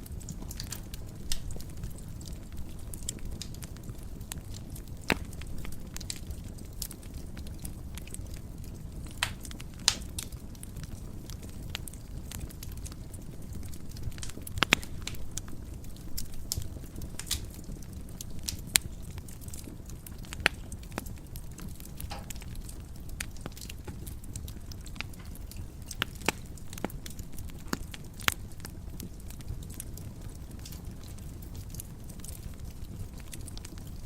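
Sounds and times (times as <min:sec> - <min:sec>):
burning logs rushing: 0:00.0 - 0:34.0
wood fire crackling: 0:00.0 - 0:34.0.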